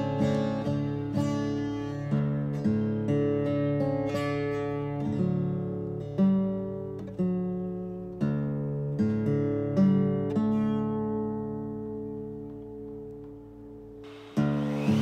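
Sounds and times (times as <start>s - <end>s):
acoustic guitar slow melody: 0.0s - 15.0s.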